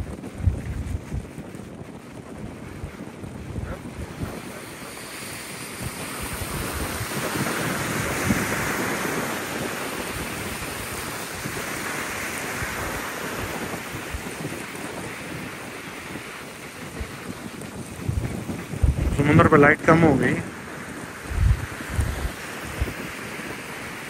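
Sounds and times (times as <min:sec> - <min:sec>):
ocean surf washing ashore: 0:00.0 - 0:24.0
wind buffeting microphone: 0:00.0 - 0:24.0.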